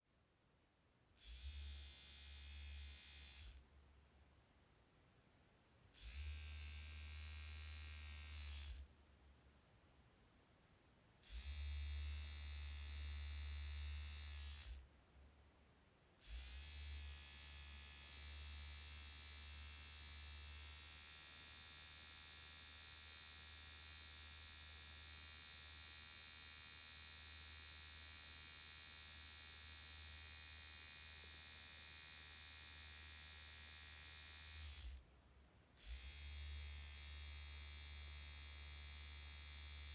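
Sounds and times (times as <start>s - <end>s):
low electric vibrating buzz: 1.2s - 3.6s, 6.0s - 8.9s, 11.2s - 14.9s, 16.2s - 35.0s, 35.8s - 39.9s.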